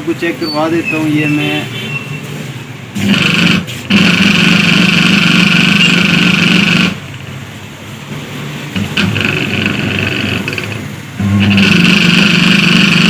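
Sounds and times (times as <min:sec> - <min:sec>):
electric fan humming with whine: 0:02.2 - 0:13.0.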